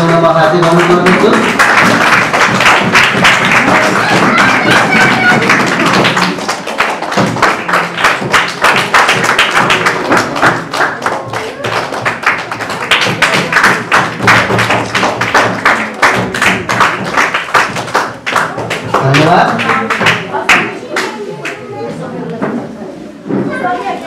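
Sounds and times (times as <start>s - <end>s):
people applauding: 0.0s - 21.6s.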